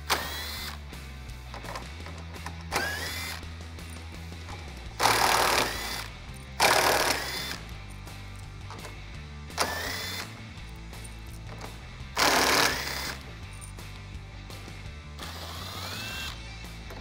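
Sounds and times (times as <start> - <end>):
impact driver whining: 0.0 - 7.9, 8.6 - 10.5, 11.1 - 13.4, 15.1 - 17.0
background music: 0.0 - 17.0.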